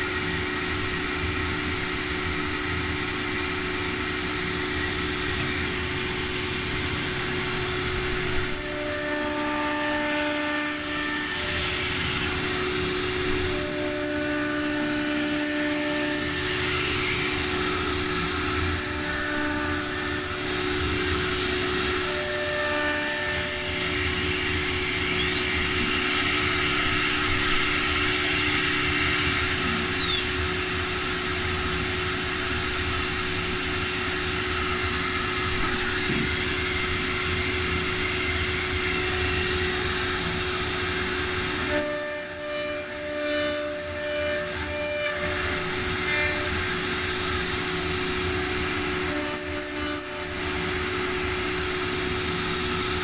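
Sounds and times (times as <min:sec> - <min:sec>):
high whine: 0:00.0 - 0:53.0
woodworking machine humming: 0:00.0 - 0:53.0.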